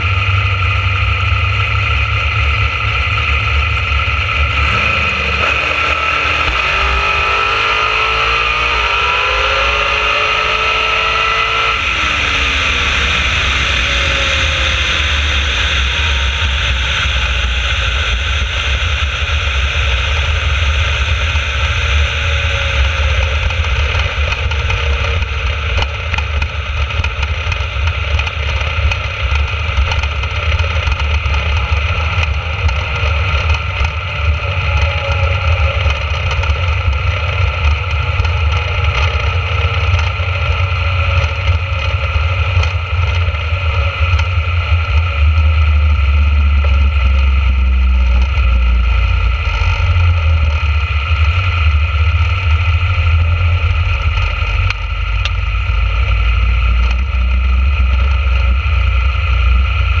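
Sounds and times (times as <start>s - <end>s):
dragster engine rumbling: 0.0s - 60.0s.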